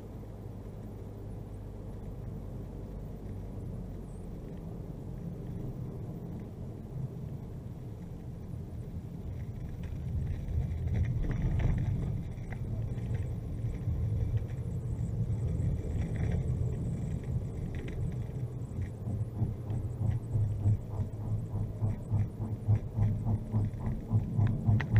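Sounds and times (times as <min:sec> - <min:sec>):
car engine and tyres rumbling: 0:00.0 - 0:24.9.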